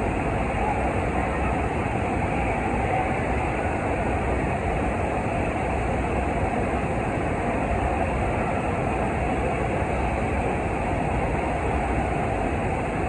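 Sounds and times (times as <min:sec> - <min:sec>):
water rushing roar: 0:00.0 - 0:13.0.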